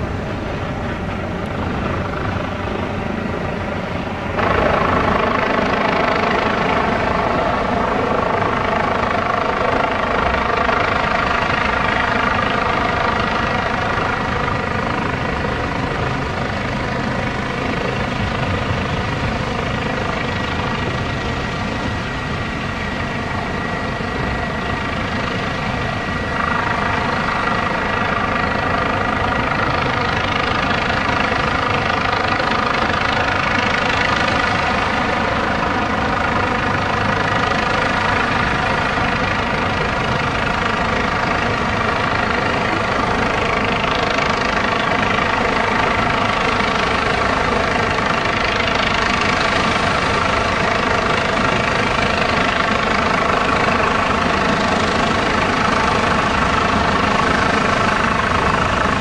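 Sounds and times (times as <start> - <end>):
helicopter hovering: 0.0 - 59.0
steady engine whine: 0.0 - 59.0.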